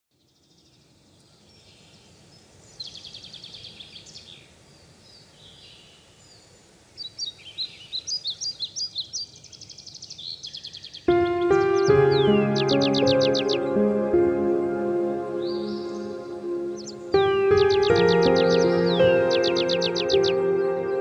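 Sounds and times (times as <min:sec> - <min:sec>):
songbirds chirping and trilling: 0:00.1 - 0:21.0
soft background hiss: 0:00.3 - 0:20.6.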